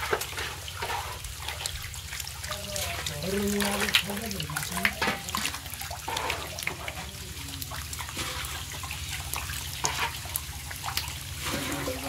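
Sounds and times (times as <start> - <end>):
catfish splashing in water: 0.0 - 12.0.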